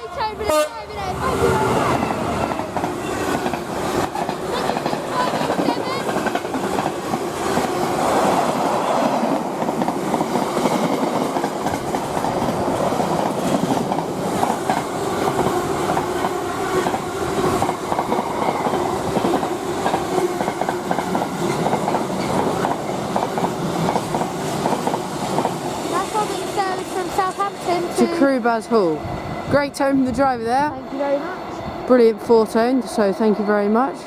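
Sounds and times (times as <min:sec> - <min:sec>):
freight train passing: 0:00.0 - 0:34.0.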